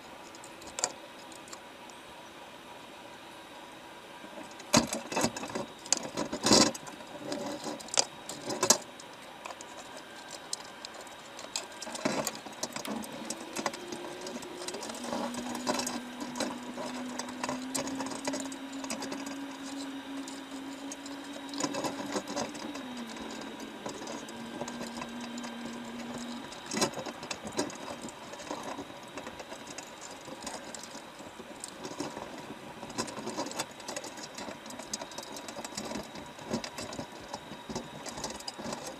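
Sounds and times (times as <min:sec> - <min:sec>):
low engine-like drone: 0:02.2 - 0:38.9.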